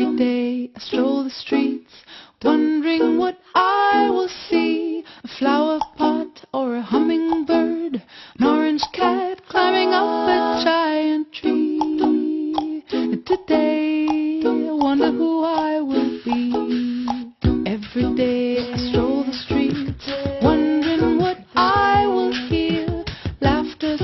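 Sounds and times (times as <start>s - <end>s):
person singing: 0.0s - 24.0s
ukulele song: 0.0s - 24.0s.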